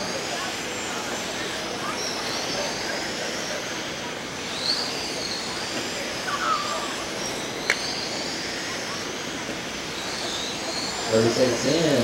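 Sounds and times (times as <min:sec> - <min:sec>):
electric rc car motor whine: 0:00.0 - 0:12.0.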